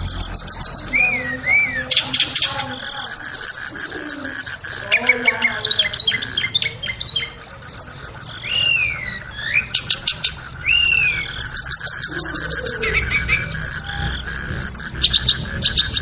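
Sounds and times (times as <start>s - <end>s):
flycatcher singing: 0.0s - 16.0s.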